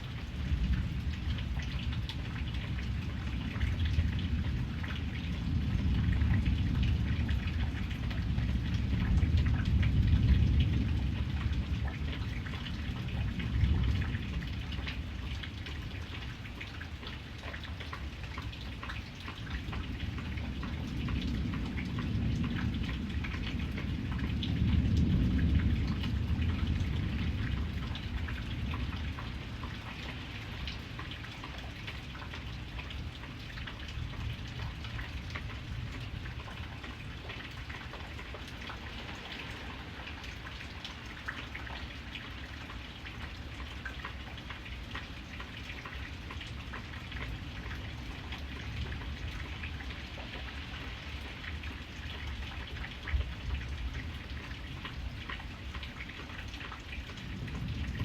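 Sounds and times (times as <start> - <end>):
rain drops ticking on hard surface: 0.0 - 58.0.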